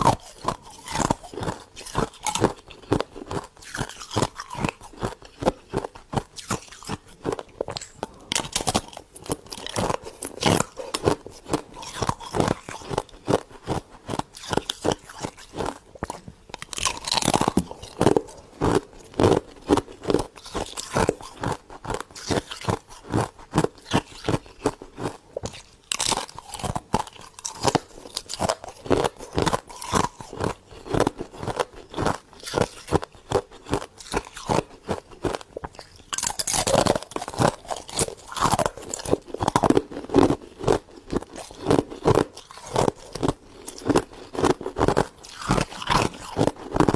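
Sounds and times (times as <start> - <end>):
chewing crunchy ice: 0.0 - 46.9.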